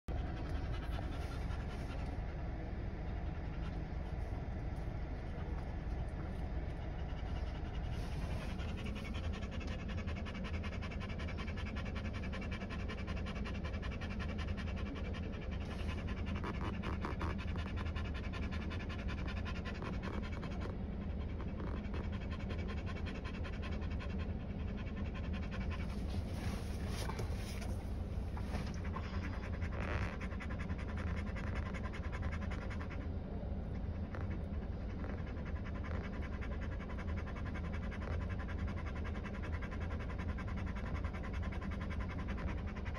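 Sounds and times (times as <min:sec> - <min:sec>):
low steady hum: 0:00.0 - 0:42.9
dog panting: 0:00.1 - 0:42.9.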